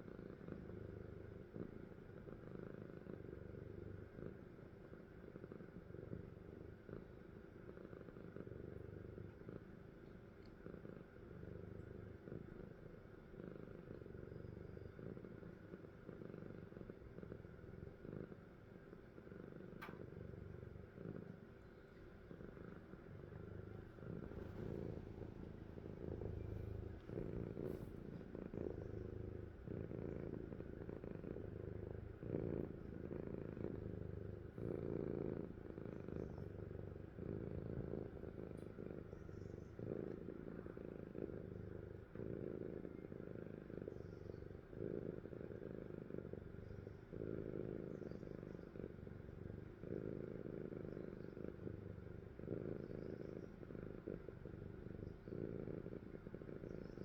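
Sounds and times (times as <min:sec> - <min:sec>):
cat snoring: 0:00.0 - 0:04.5, 0:10.6 - 0:57.0.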